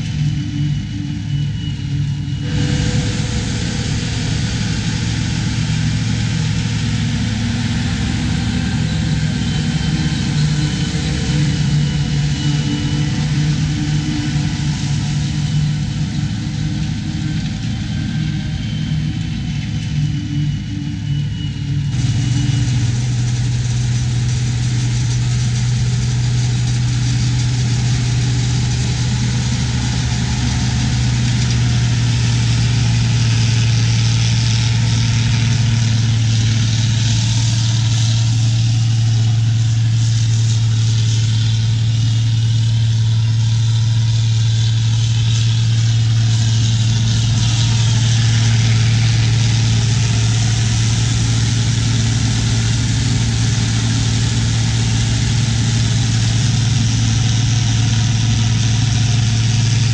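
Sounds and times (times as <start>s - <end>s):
diesel engine running under load: 0.0s - 59.9s
low engine hum: 0.0s - 59.9s.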